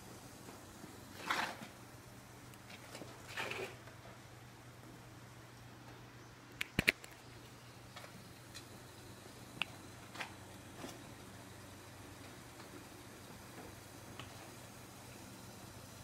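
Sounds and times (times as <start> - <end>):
wood stove ticking and popping: 0.0 - 6.0, 6.6 - 16.0
faint steady hum: 0.0 - 16.0.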